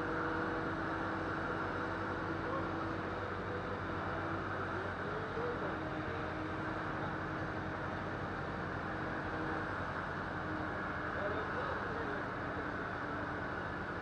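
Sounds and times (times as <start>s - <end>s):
crane engine running: 0.0s - 14.0s.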